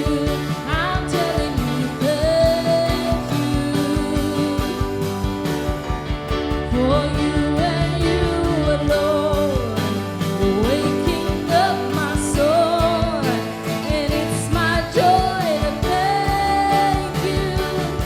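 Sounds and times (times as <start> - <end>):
band playing held chords: 0.0 - 18.0
steady drum beat: 0.0 - 18.0.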